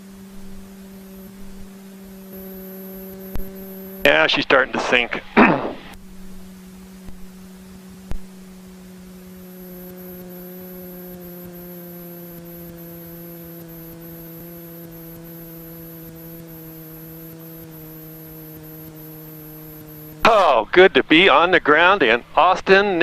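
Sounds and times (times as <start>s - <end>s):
airplane engine humming: 0.0s - 23.0s.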